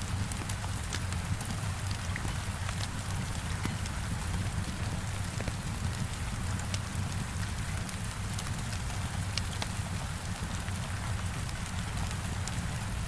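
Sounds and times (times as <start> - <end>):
heavy rain on a window: 0.0 - 13.0
wood fire crackling: 0.1 - 12.7.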